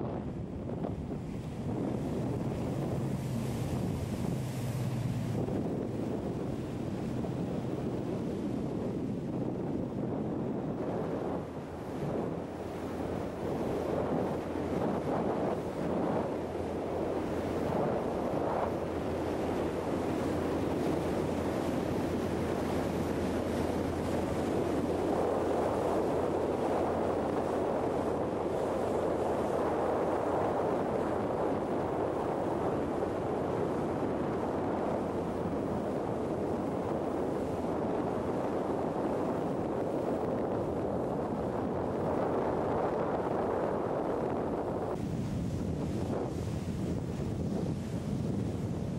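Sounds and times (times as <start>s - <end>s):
water rushing past boat: 0.0s - 48.9s
wind buffeting microphone: 0.0s - 48.9s.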